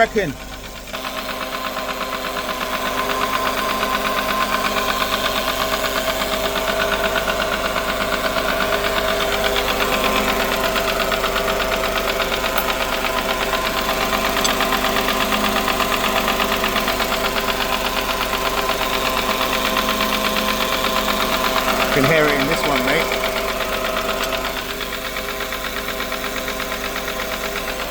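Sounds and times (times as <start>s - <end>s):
car engine running: 0.0s - 27.9s
rhythmic engine knock: 0.0s - 27.9s.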